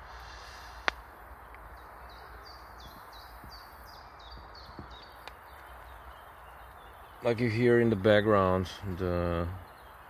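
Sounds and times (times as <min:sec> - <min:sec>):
songbird singing: 0:00.0 - 0:10.0
steady outdoor hiss: 0:00.0 - 0:10.0.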